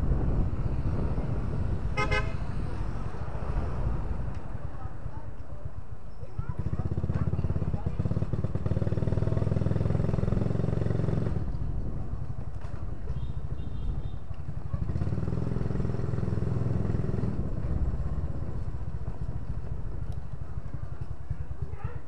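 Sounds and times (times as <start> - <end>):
motorcycle engine running: 4.1 - 22.0.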